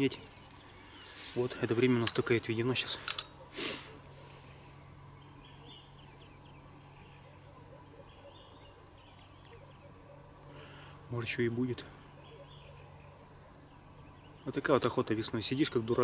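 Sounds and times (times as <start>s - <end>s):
distant bird calls: 0.0s - 16.0s
low steady hum: 0.0s - 16.0s.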